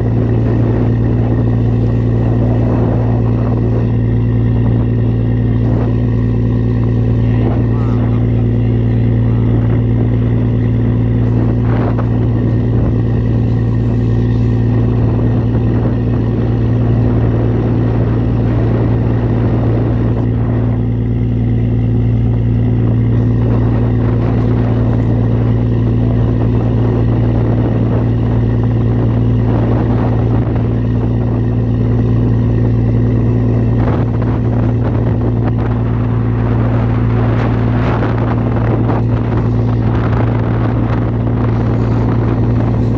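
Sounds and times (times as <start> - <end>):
boat engine running: 0.0 - 42.9
water: 0.0 - 42.9
wind: 0.0 - 42.9.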